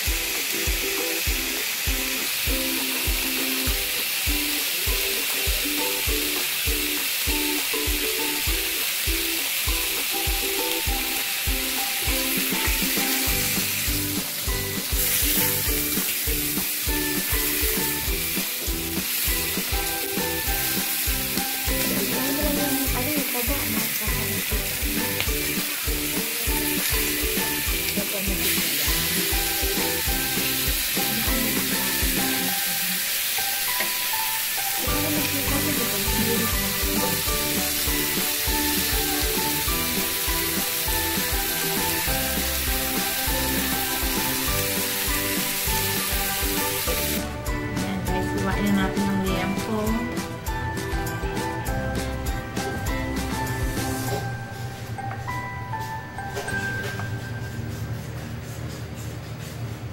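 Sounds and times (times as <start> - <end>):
meat sizzling in a grill pan: 0.0 - 47.6, 52.6 - 54.2
background music with steady beat: 0.0 - 59.9.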